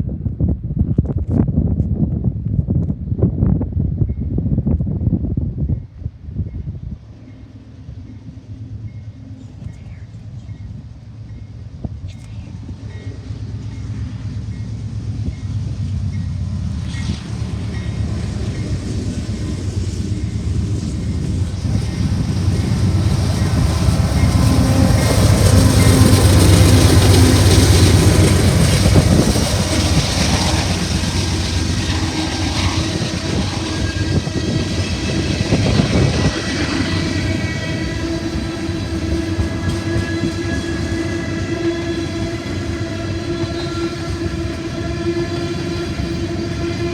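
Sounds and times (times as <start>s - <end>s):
train passing: 5.7s - 46.9s
wheels clattering on rail: 7.2s - 46.9s.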